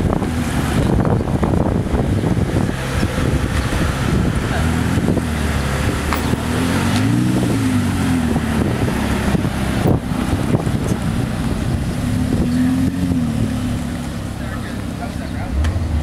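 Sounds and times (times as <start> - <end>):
wind on microphone: 0.0 - 14.3
car engine revving: 0.0 - 16.0.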